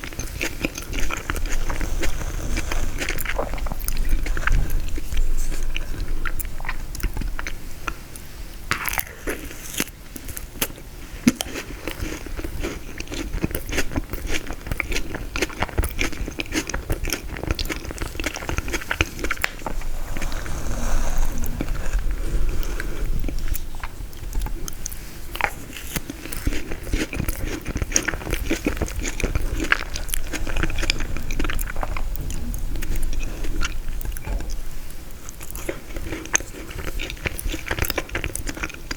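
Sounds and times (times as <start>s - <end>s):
crunchy chewing: 0.0s - 38.9s.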